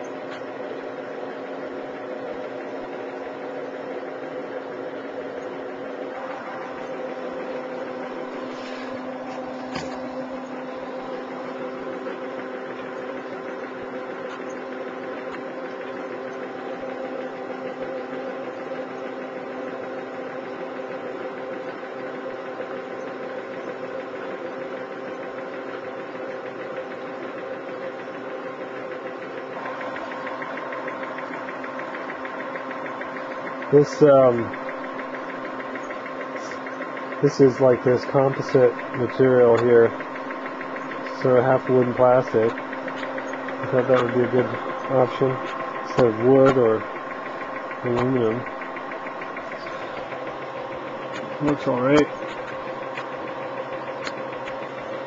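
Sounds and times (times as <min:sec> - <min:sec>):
electric motor humming: 0:00.0 - 0:55.0.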